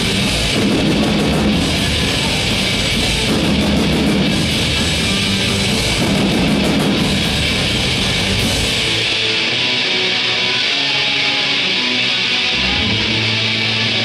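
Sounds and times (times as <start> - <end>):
bass guitar: 0.0 - 14.0
drum kit: 0.0 - 14.0
electric guitar: 0.0 - 14.0.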